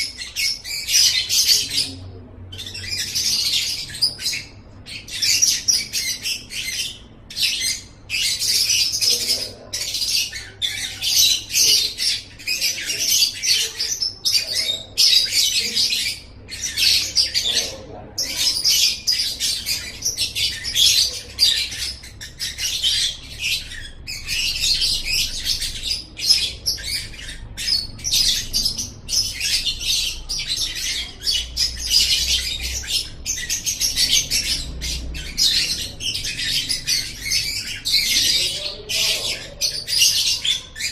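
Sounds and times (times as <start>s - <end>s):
lovebird chattering: 0.0s - 40.9s.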